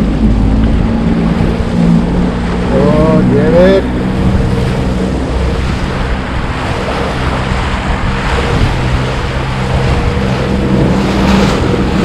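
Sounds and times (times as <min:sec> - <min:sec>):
boat motor humming: 0:00.0 - 0:12.0
water rushing: 0:00.0 - 0:12.0
wind noise: 0:00.0 - 0:12.0.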